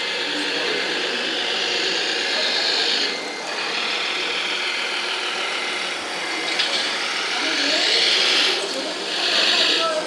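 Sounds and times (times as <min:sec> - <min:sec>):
small electric motor whirring: 0:00.0 - 0:10.0.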